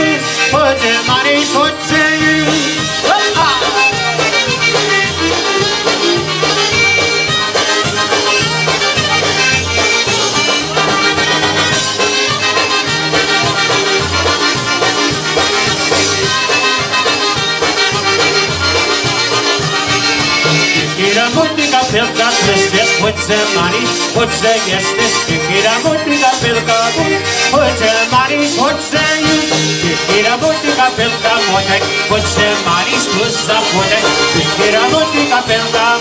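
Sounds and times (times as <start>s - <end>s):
accordion: 0.0s - 36.0s
bass line: 0.0s - 36.0s
concertina: 0.0s - 36.0s
drums: 0.0s - 36.0s
trumpets: 0.0s - 36.0s.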